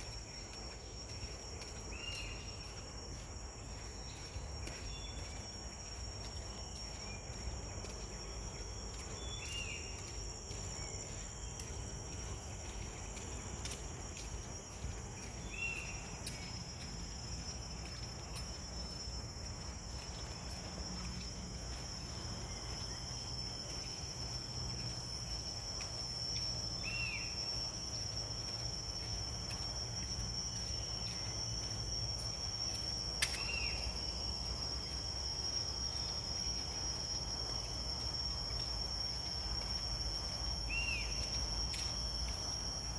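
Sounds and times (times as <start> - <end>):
insects chorus: 0.0 - 42.9.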